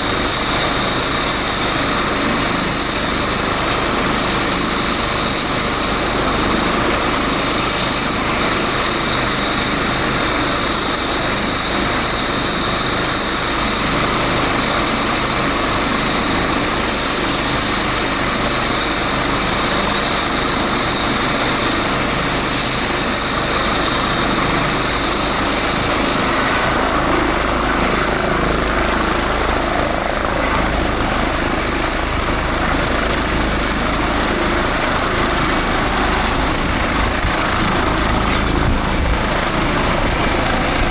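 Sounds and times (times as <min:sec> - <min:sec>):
helicopter running: 0:00.0 - 0:40.9.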